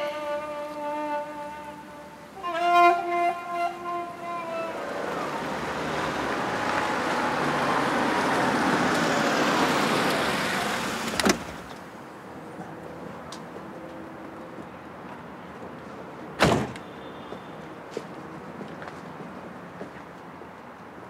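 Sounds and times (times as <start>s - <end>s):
car engine and tyre noise: 1.8s - 21.0s.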